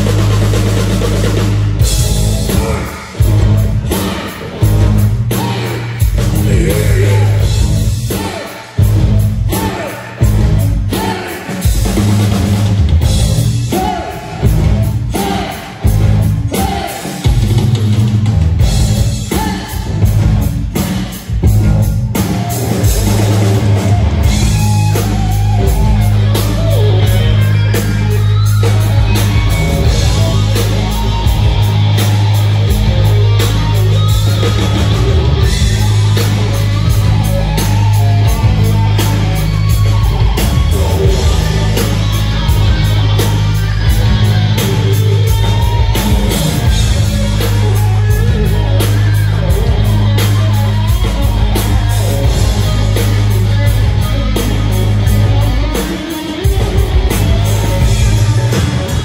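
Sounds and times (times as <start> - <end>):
hard rock band playing: 0.0 - 59.0.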